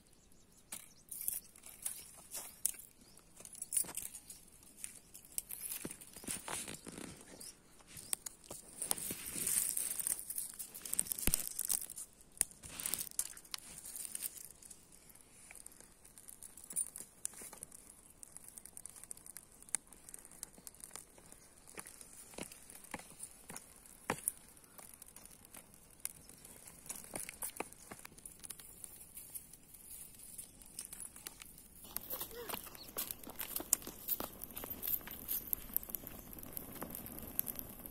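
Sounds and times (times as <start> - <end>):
twig fire crackling and popping: 0.0 - 37.9
dry twigs and grass rustling: 0.2 - 37.9.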